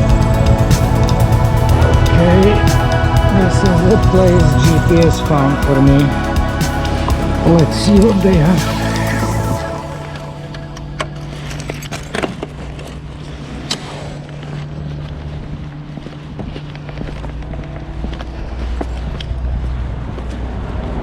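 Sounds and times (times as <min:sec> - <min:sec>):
motorcycle engine humming: 0:00.0 - 0:20.4.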